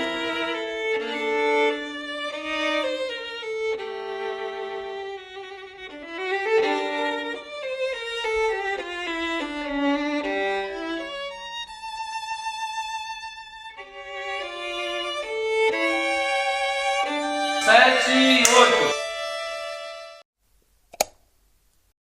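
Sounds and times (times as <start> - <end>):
violin playing slow melody: 0.0 - 20.2.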